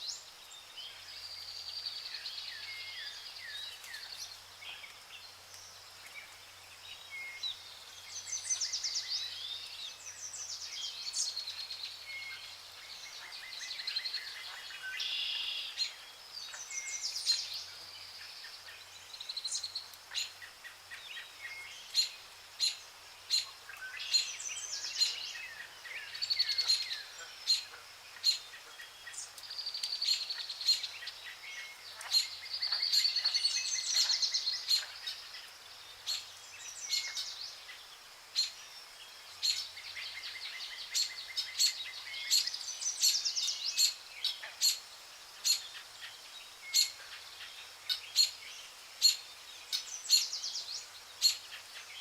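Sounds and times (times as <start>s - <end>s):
songbirds singing and calling: 0.0s - 52.0s.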